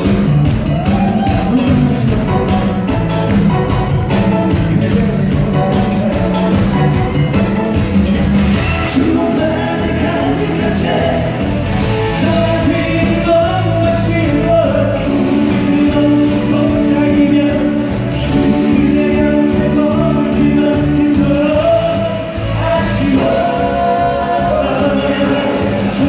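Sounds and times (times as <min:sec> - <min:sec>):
person singing: 0:00.0 - 0:07.6, 0:08.7 - 0:26.0
live upbeat pop music: 0:00.0 - 0:26.0.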